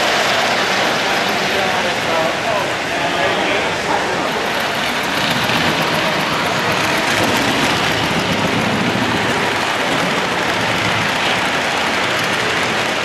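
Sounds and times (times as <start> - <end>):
model trains rolling on track: 0.0 - 13.0.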